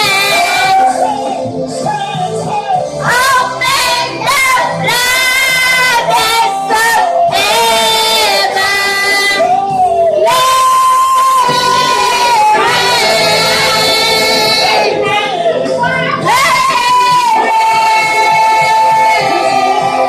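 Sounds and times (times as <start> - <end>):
person singing without words: 0.0 - 20.0
worship music: 0.0 - 20.0.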